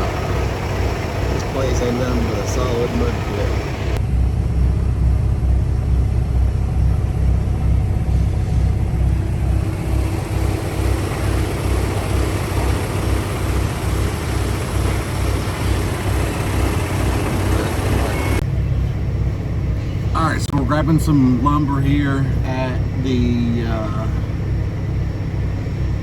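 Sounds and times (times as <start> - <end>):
truck diesel engine rumbling: 0.0 - 26.0.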